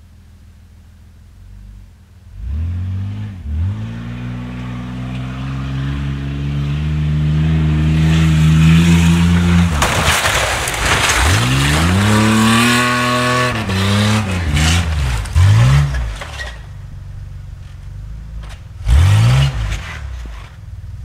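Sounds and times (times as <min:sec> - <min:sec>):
car engine revving: 0:01.4 - 0:21.0.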